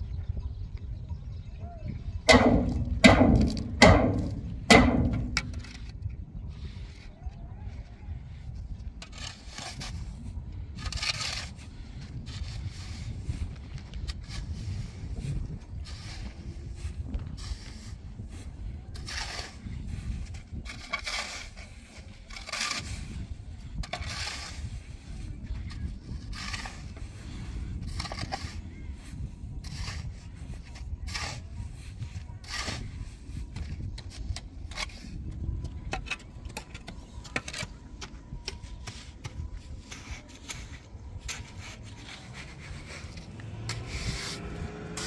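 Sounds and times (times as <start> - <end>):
shovel scraping cement mix: 2.3 - 6.0, 8.9 - 45.0.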